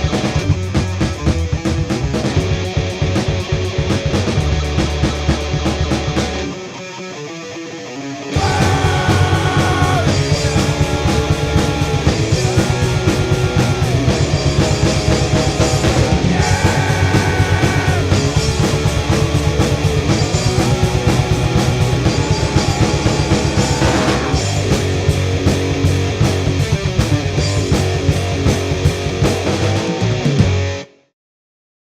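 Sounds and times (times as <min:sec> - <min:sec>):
rock music with drums: 0:00.0 - 0:31.0
sustained lead guitar notes: 0:02.4 - 0:31.0.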